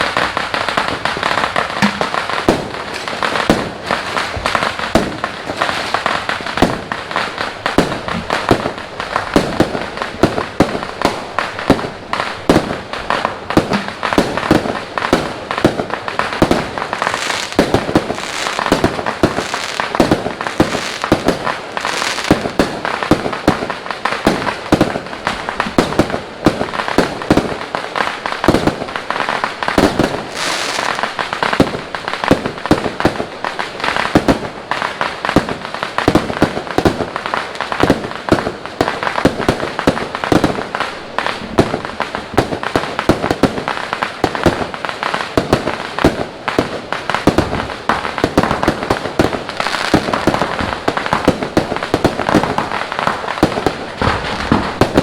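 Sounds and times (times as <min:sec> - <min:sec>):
fireworks and firecrackers banging: 0:00.0 - 0:55.0.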